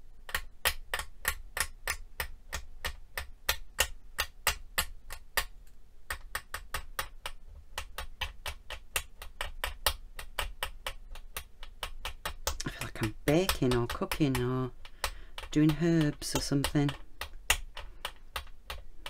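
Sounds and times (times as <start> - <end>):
blade clicking on glass mat: 0.2 - 19.0.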